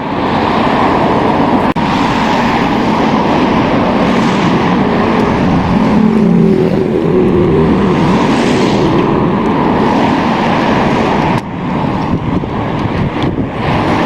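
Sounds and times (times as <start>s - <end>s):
loud rumbling noise: 0.0s - 14.0s.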